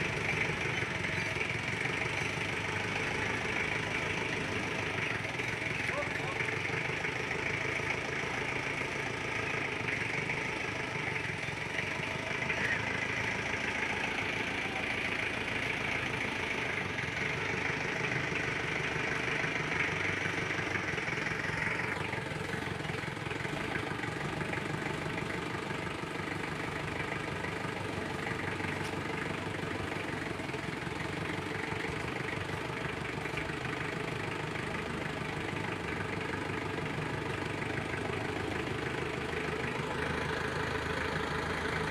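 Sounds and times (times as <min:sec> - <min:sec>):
jeep engine running: 0:00.0 - 0:41.9.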